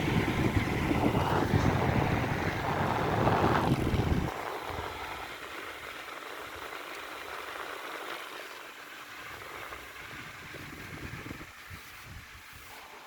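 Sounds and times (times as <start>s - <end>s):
fan air buffeting microphone: 0.0s - 13.0s
fan whirring: 0.0s - 13.0s.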